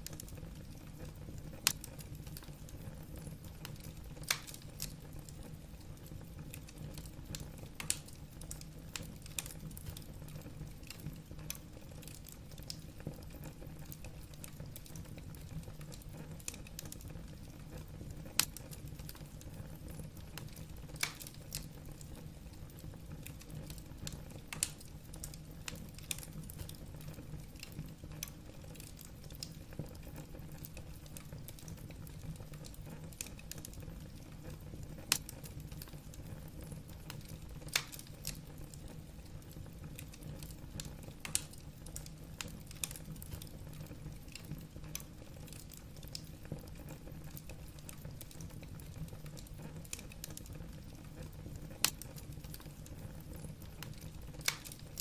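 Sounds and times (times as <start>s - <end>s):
low rumble of fire: 0.0s - 55.0s
sharp snaps of burning wood: 0.0s - 55.0s
wood fire crackling: 0.0s - 55.0s.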